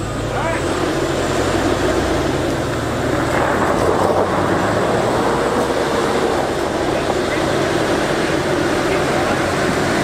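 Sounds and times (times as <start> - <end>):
suv engines rumbling under load: 0.0 - 10.0.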